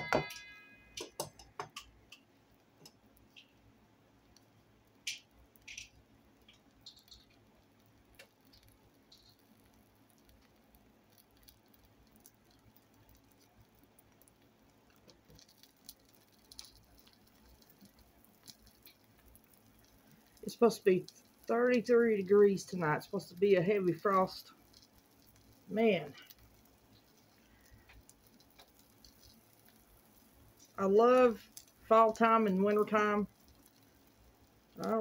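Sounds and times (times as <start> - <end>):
fat popping: 0.0 - 3.6, 4.3 - 21.9, 23.6 - 35.0
eggs frying crackles: 0.0 - 35.0.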